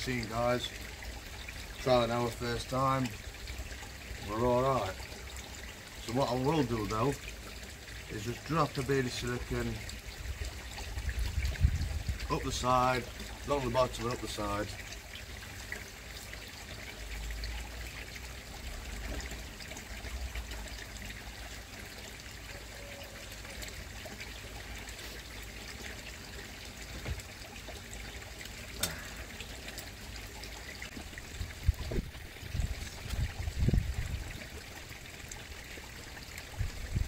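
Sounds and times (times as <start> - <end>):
water trickling in pond: 0.0 - 37.0.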